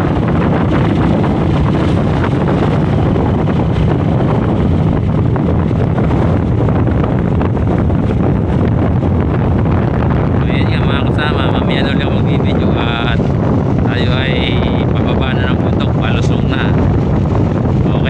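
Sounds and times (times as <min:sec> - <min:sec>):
road noise: 0:00.0 - 0:18.0
vehicle engine: 0:00.0 - 0:18.0
wind noise on microphone: 0:00.0 - 0:18.0.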